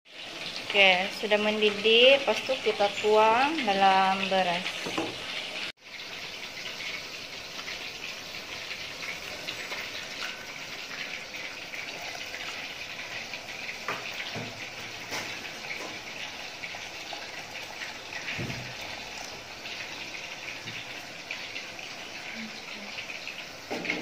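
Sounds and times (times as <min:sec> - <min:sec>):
liquid pouring into pot: 0:04.6 - 0:24.0.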